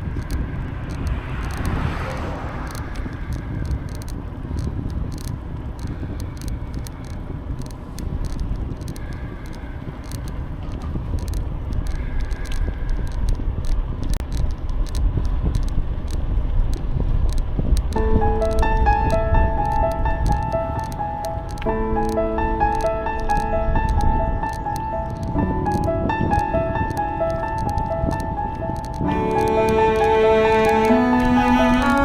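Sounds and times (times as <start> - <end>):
bicycle tyres rumbling on path: 0.0 - 32.0
short clicks and rattles: 0.0 - 32.0
wind buffeting microphone: 0.0 - 32.0.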